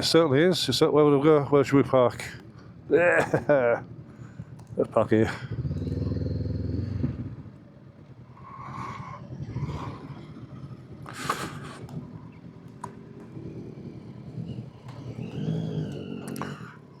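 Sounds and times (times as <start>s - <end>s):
vehicle noise: 0.0s - 17.0s
motorcycle engine idling: 2.4s - 17.0s.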